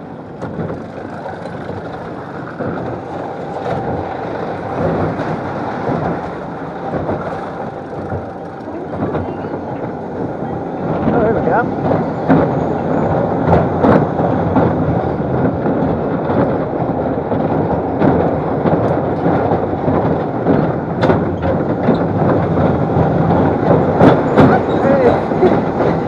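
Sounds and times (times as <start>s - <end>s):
ride car rattling on rails: 0.0s - 26.0s.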